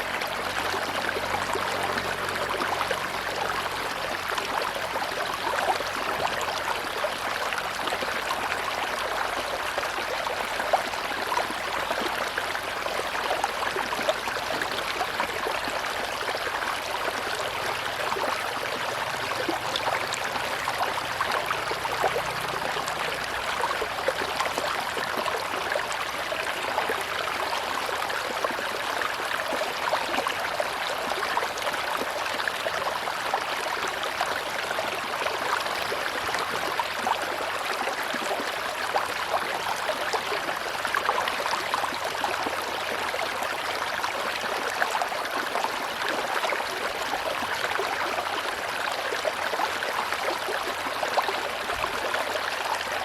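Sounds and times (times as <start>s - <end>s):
river water rushing: 0.0s - 53.0s
small splashes and trickles: 0.0s - 53.0s.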